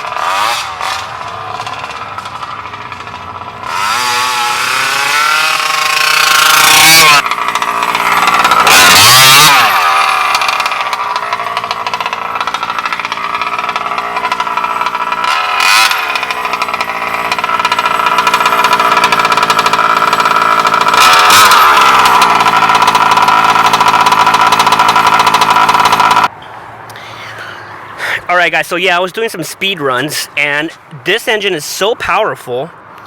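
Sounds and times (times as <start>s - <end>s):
rc truck gas engine revving: 0.0s - 32.6s.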